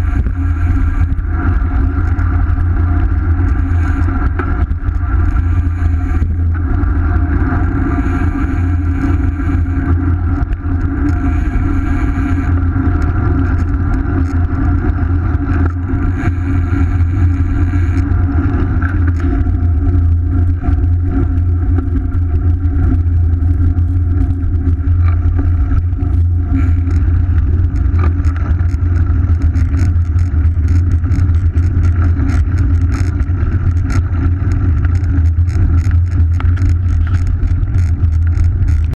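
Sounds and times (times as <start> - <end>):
tyre and road noise: 0.0 - 38.9
wind rush on microphone: 0.0 - 38.9.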